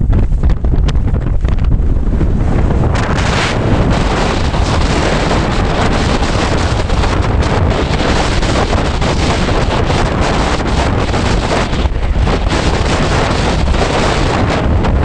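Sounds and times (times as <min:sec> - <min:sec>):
gale-force wind buffeting microphone: 0:00.0 - 0:15.0.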